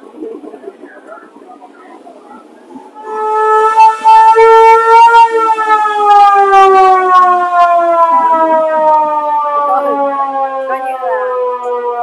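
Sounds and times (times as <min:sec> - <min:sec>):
vehicle alarm siren: 0:02.3 - 0:12.0.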